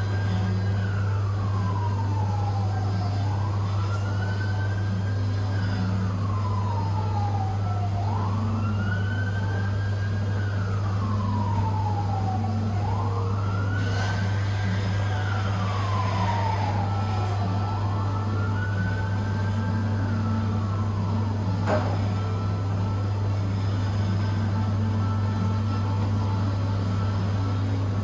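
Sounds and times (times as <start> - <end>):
emergency siren wailing: 0.0 - 28.0
steady low hum: 0.0 - 28.0.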